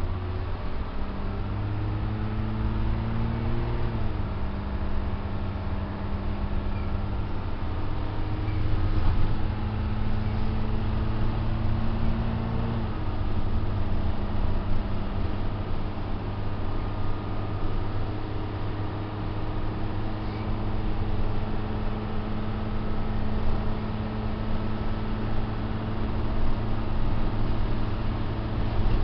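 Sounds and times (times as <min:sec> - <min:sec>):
bus engine droning: 0:00.0 - 0:29.0
road noise: 0:00.0 - 0:29.0.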